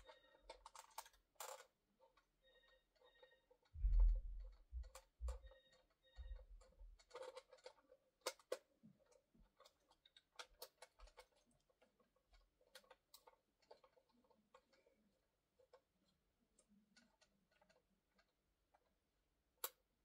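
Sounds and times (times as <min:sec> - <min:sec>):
plastic and batteries clicking: 0:00.0 - 0:20.0.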